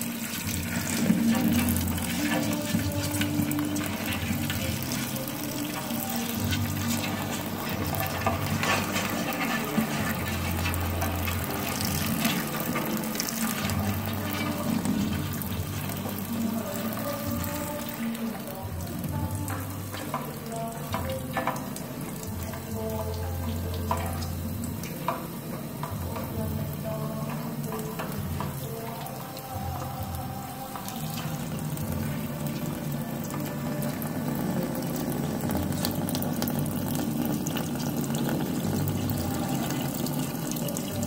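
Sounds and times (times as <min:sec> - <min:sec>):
tap water running into sink: 0:00.0 - 0:41.0.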